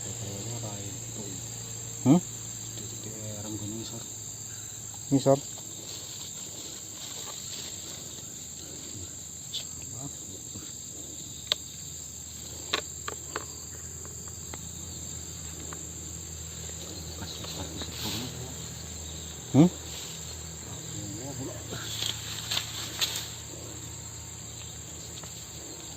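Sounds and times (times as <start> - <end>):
high-pitched insect chorus: 0.0 - 25.9.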